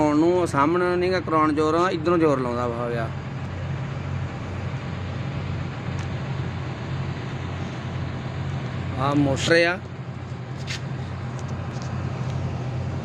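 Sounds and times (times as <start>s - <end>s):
vehicle rumbling nearby: 0.0s - 13.0s.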